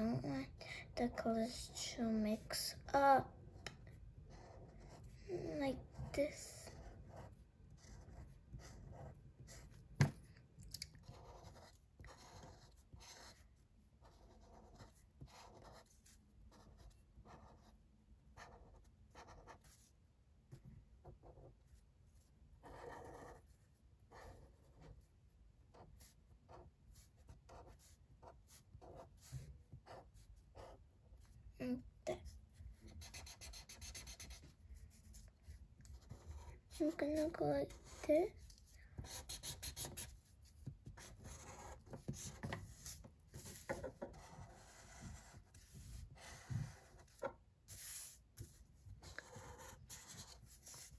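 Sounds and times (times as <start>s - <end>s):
marker scratching on paper: 4.3s - 10.2s, 11.0s - 13.4s, 14.0s - 17.8s, 18.4s - 19.9s, 21.1s - 25.1s, 25.7s - 50.9s.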